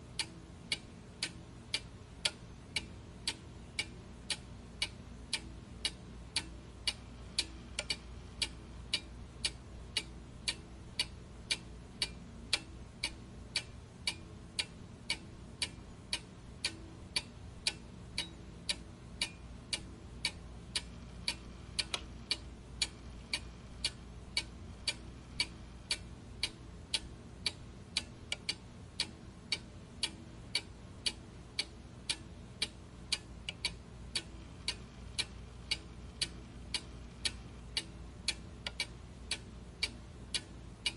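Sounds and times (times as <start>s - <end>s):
faint low hum: 0.0s - 40.9s
regular ticking: 0.0s - 40.9s.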